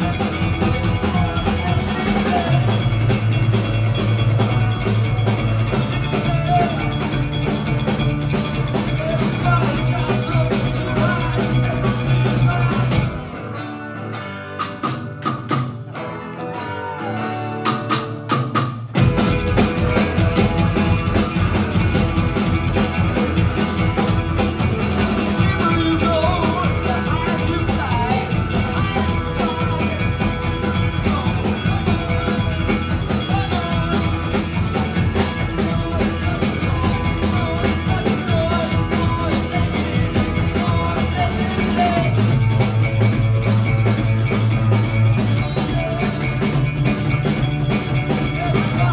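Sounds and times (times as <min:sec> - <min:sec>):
electric guitars: 0:00.0 - 0:48.9
rock band playing: 0:00.0 - 0:48.9.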